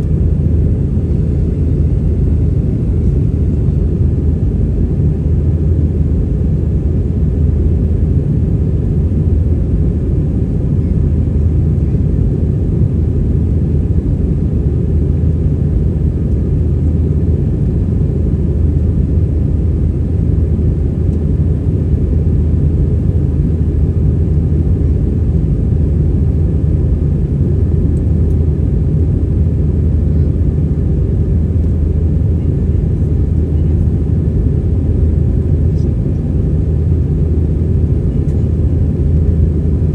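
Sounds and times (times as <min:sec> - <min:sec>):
airplane cabin jet engine rumble: 0:00.0 - 0:39.9.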